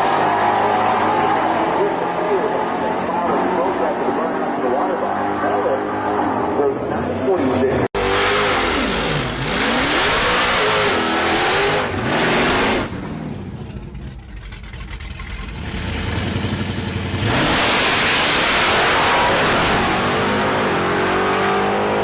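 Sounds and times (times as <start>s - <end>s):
drag car engines revving: 0.0s - 22.0s.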